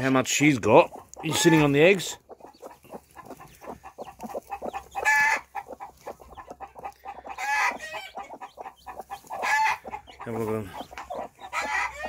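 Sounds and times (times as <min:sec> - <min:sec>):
hen clucking: 0:00.0 - 0:12.0
harsh hen calls: 0:00.7 - 0:12.0.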